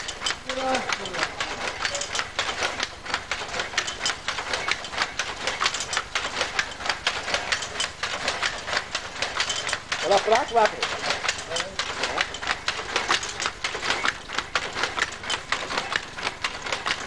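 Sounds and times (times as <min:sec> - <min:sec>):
low mechanical hum: 0:00.0 - 0:17.0
machinery clacking: 0:00.0 - 0:17.0.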